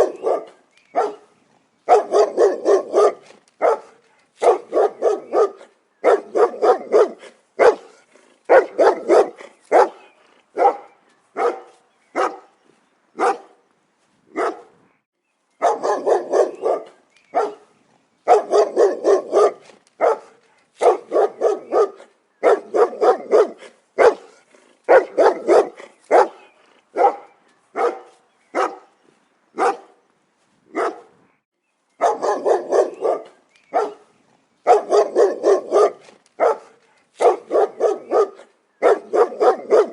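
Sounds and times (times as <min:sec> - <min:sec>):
dog barking: 0:00.0 - 0:01.3, 0:01.9 - 0:12.5, 0:13.2 - 0:13.6, 0:14.3 - 0:14.7, 0:15.6 - 0:17.7, 0:18.3 - 0:28.9, 0:29.6 - 0:30.0, 0:30.7 - 0:31.1, 0:32.0 - 0:39.9.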